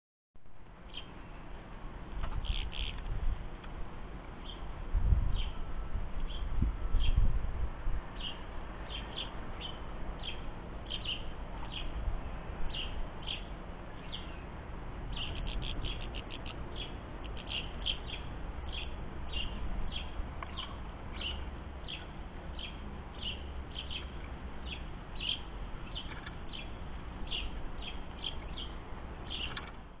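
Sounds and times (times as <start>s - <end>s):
songbird chirping: 0.8s - 1.5s, 2.2s - 3.2s, 4.3s - 4.7s, 5.3s - 7.3s, 8.1s - 29.9s.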